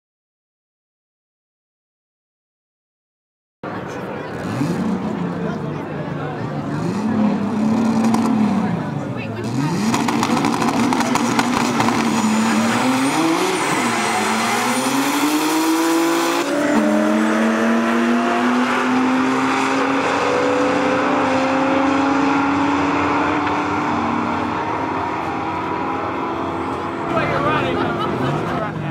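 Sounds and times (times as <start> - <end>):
turbo car engine at full throttle: 3.6 - 28.9.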